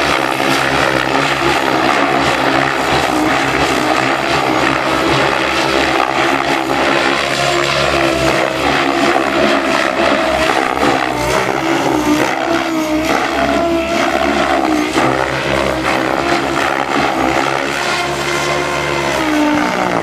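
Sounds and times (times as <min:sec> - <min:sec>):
motor and gear whine: 0:00.0 - 0:20.0
rotor blades chopping: 0:00.0 - 0:20.0.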